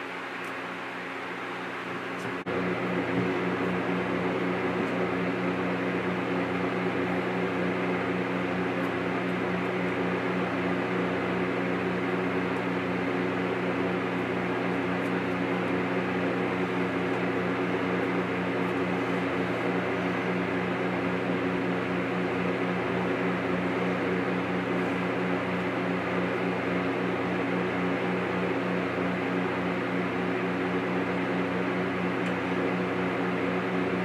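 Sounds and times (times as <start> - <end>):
steady machine hum: 0.0 - 34.0.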